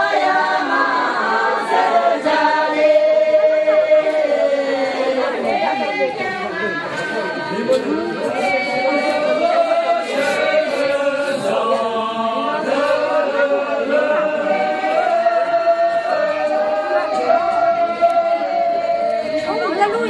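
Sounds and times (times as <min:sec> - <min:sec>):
men singing unaccompanied: 0:00.0 - 0:20.0.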